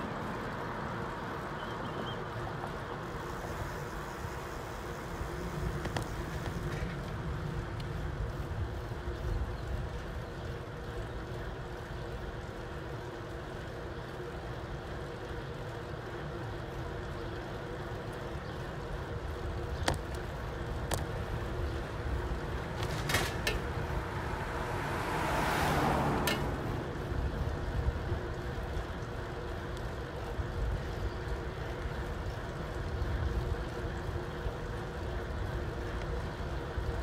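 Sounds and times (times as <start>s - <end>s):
road noise of vehicle moving: 0.0s - 37.0s.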